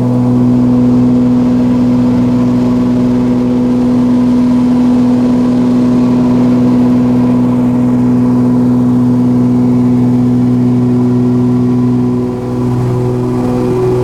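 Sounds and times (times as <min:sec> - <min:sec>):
aircraft engines and propellers: 0:00.0 - 0:14.0.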